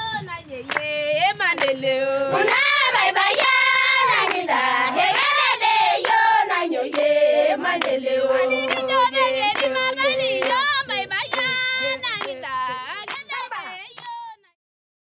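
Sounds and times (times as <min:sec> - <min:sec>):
people singing a chant: 0:00.0 - 0:14.4.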